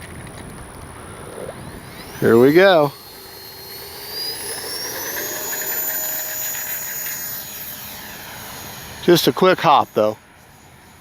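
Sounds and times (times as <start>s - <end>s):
electric ducted fan whine: 0.0s - 11.0s.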